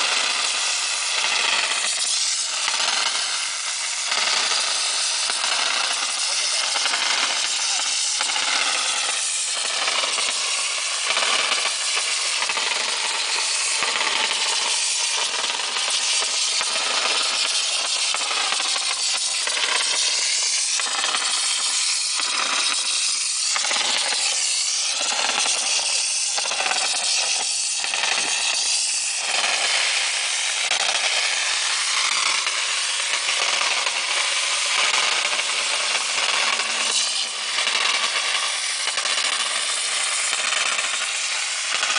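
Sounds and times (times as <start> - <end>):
hiss of mortar spray nozzle: 0.0 - 41.9.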